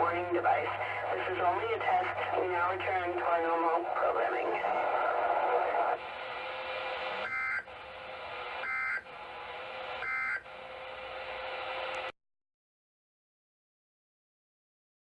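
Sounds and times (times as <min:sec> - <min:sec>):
radio receiver hiss: 0:00.0 - 0:12.1.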